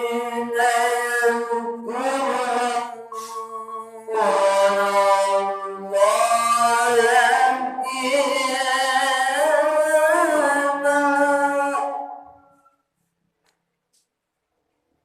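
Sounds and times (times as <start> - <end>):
person chanting a melody: 0.0 - 12.5.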